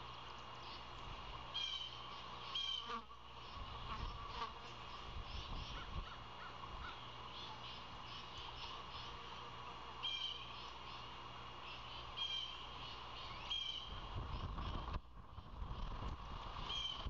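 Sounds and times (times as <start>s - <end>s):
bird calling: 0.0s - 9.3s, 10.0s - 15.0s, 16.6s - 17.0s.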